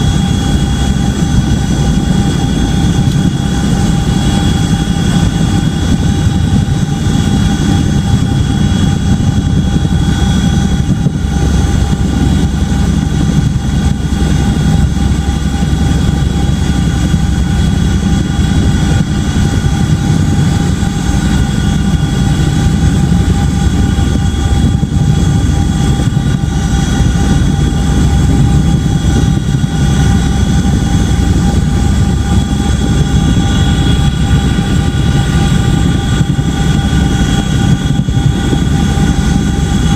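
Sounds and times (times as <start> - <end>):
helicopter rotor rumble: 0.0 - 39.9
turbine whine: 0.0 - 39.9.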